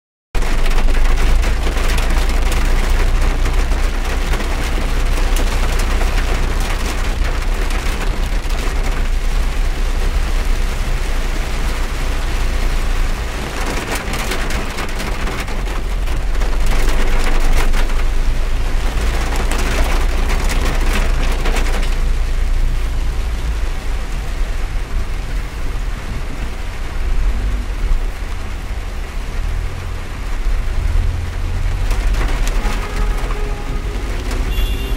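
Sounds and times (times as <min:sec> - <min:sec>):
heavy rain drumming on car roof: 0:00.4 - 0:34.9.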